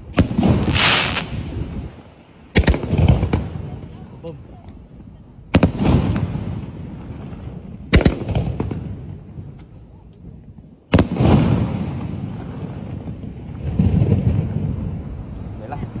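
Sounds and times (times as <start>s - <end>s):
deep firework boom: 0.0s - 4.4s, 5.4s - 16.0s
fireworks bangs with echo: 0.0s - 4.4s, 5.5s - 9.6s, 10.5s - 15.7s.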